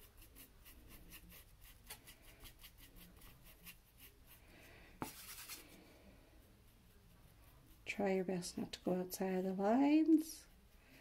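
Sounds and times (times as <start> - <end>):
brush scraping plastic palette: 0.0 - 9.4
paintbrush strokes on canvas: 0.0 - 11.0.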